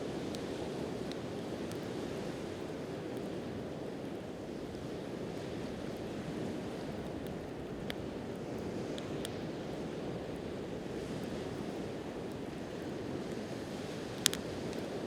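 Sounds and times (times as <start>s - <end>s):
campfire wood popping: 0.2s - 4.8s, 5.7s - 15.0s.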